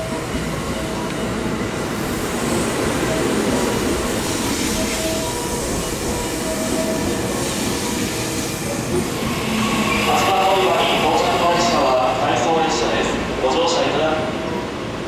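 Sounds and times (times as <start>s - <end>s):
train wheels rumbling on rails: 0.0s - 13.3s.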